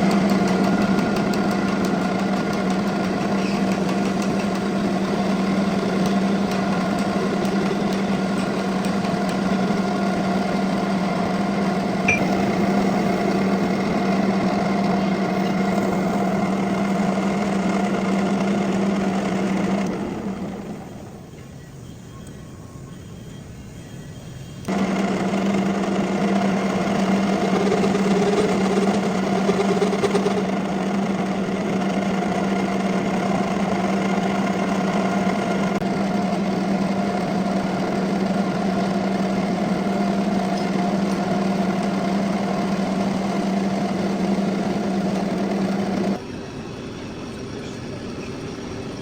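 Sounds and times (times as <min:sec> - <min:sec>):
metal lathe whirring: 0:00.0 - 0:49.0.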